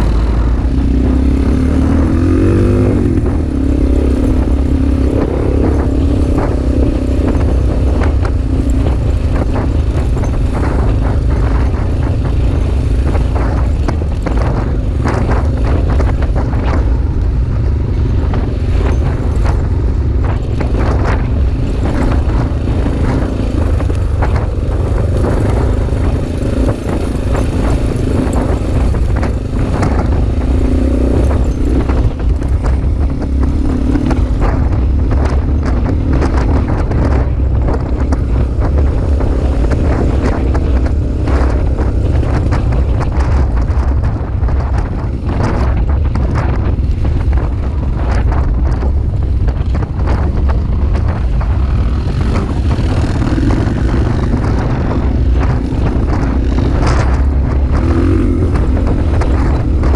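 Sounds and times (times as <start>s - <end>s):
knocks and rattles: 0.0s - 59.9s
motorbike engine running: 0.0s - 59.9s.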